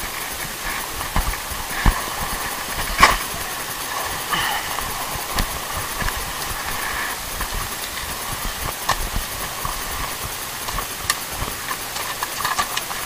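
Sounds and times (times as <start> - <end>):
steady ambient hiss: 0.0 - 13.0.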